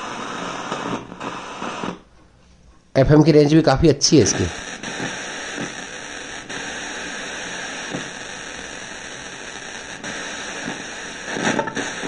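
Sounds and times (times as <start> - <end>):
radio static hiss: 0.0 - 2.1, 3.0 - 12.0.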